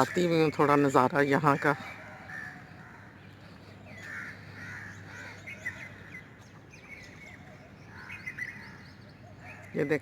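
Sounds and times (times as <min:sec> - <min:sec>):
birds calling and chirping: 0:00.0 - 0:10.0
harsh caw-like bird calls: 0:00.0 - 0:10.0.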